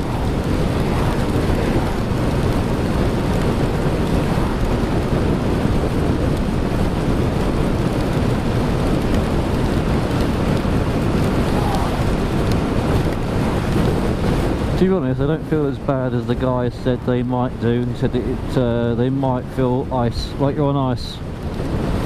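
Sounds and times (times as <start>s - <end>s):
heavy rain: 0.0s - 22.0s
road noise: 0.0s - 22.0s
wind buffeting microphone: 0.0s - 22.0s.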